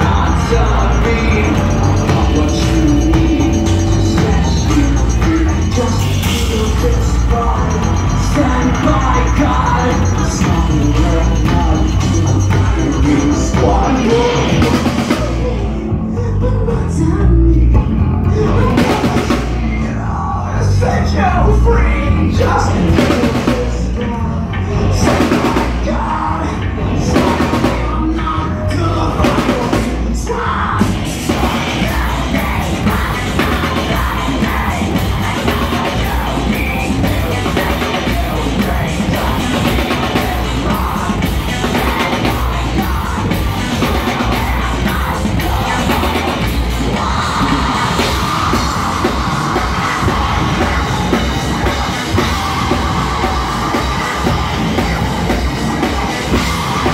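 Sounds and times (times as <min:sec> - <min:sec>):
distorted electric guitars: 0:00.0 - 0:56.9
pounding drum kit: 0:00.0 - 0:56.9.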